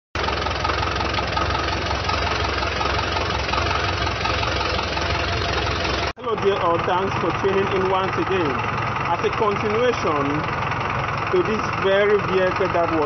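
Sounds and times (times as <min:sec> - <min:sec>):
diesel truck engine idling: 0:00.2 - 0:13.0.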